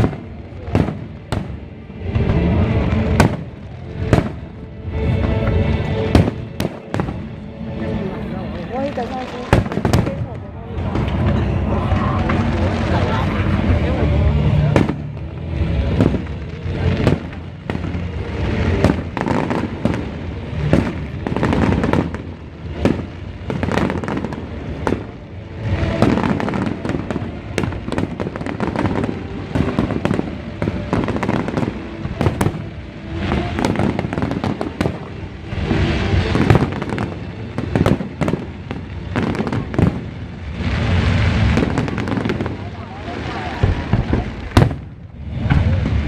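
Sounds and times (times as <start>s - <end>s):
fireworks booming and crackling: 0.0s - 46.0s.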